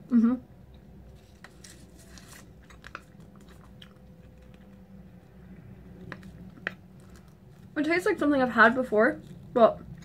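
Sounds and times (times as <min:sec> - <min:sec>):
chewing taffy: 0:00.8 - 0:10.0.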